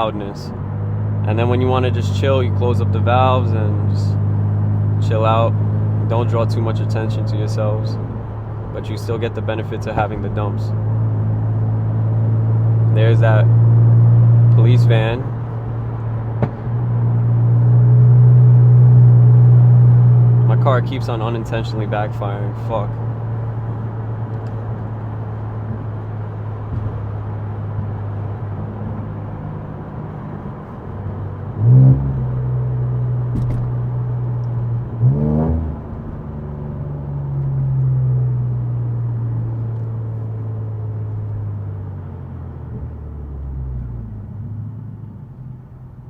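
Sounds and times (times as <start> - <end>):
car engine droning and revving: 0.0 - 46.0.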